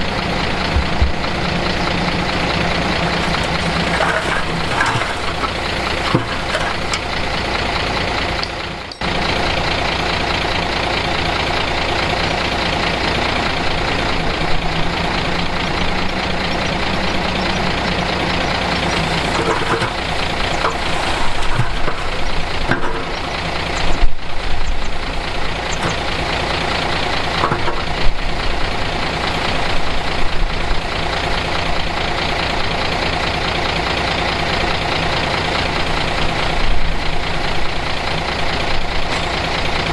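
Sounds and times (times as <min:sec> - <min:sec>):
earthmoving machinery diesel engines: 0:00.0 - 0:39.9.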